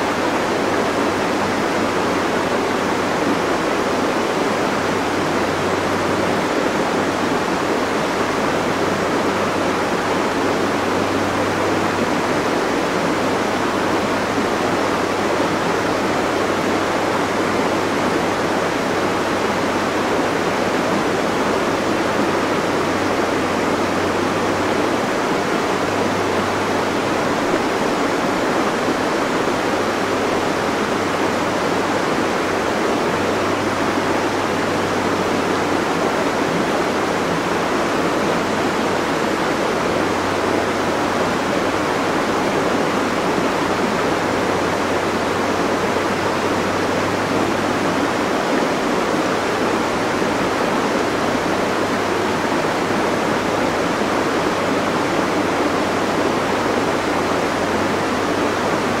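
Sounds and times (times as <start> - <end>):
rushing stream water: 0.0 - 59.0.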